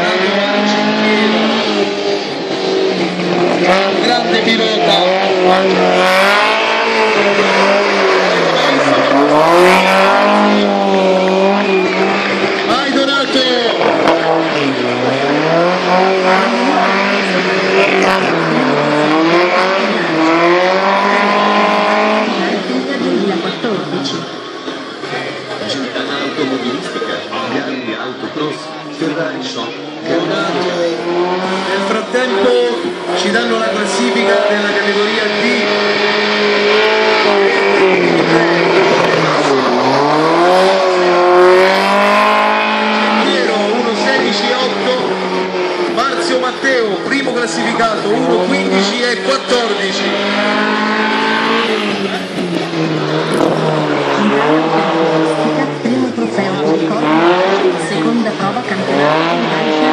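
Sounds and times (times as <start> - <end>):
car engine revving hard: 0.0 - 59.9.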